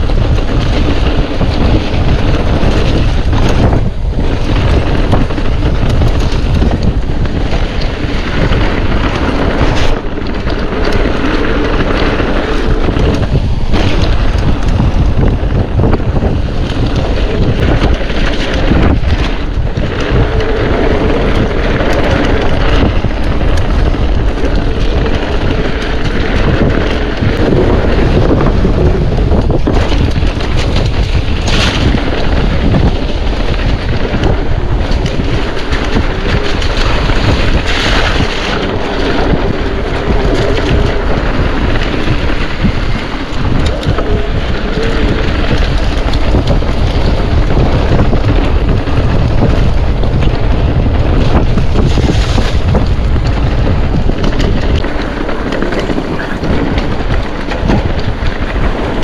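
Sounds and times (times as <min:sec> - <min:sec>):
bike rolling over trail: 0:00.0 - 0:59.0
wind buffeting microphone: 0:00.0 - 0:59.0.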